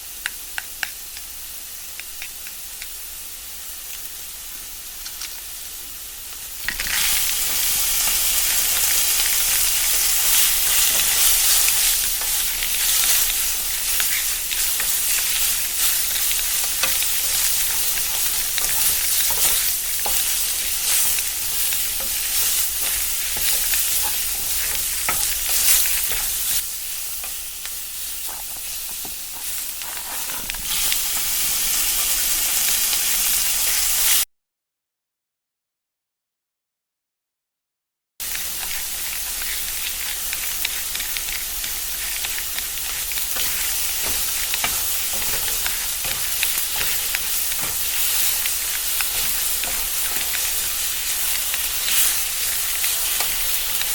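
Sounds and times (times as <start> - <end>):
food sizzling in a pan: 0.0 - 34.3, 38.2 - 53.9.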